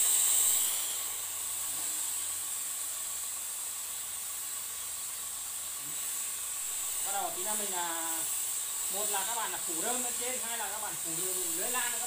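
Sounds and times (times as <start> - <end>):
water spray hissing from nozzle: 0.0 - 12.0.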